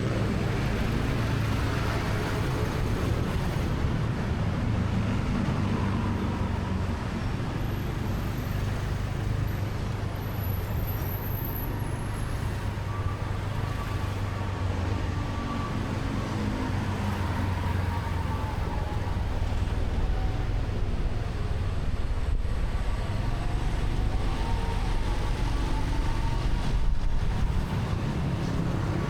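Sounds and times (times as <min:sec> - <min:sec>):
road and traffic noise: 0:00.0 - 0:29.0.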